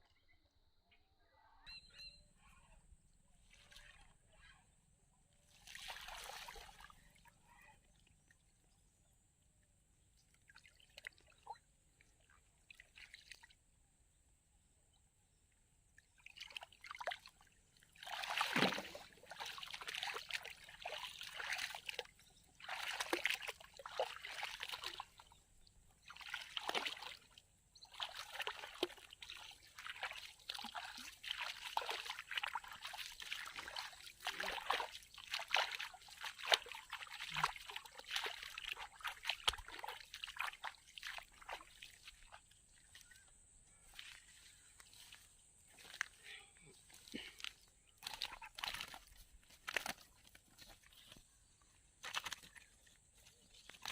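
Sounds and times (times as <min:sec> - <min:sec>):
water splashing and sloshing: 0:03.4 - 0:04.6, 0:05.3 - 0:13.7, 0:15.9 - 0:53.9.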